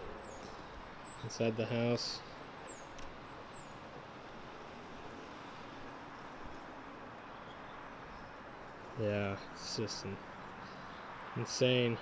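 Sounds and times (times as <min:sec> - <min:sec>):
distant traffic hiss: 0:00.0 - 0:12.0.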